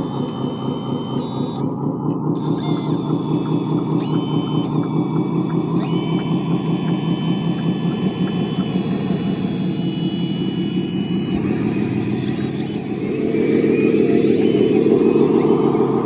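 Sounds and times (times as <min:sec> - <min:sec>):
high motor whine: 0:00.0 - 0:16.0
electric motor gear grind: 0:02.4 - 0:16.0.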